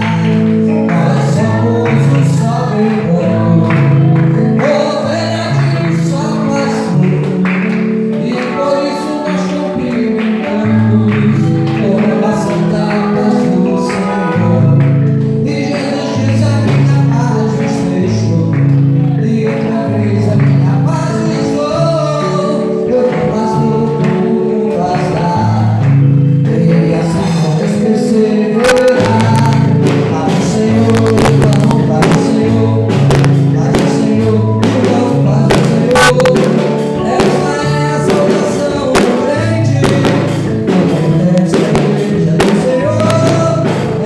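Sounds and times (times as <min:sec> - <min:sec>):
congregation singing gospel: 0:00.0 - 0:44.0
walking bass line: 0:00.0 - 0:44.0.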